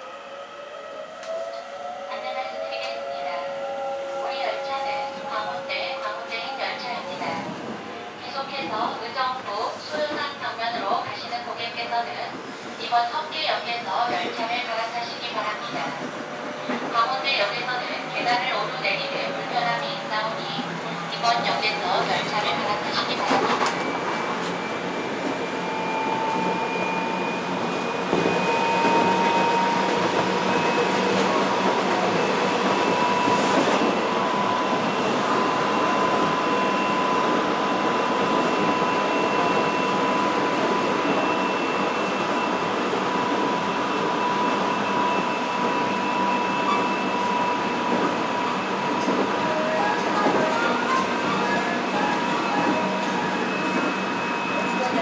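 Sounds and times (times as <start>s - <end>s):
subway wheels rumbling on track: 0.0s - 55.0s.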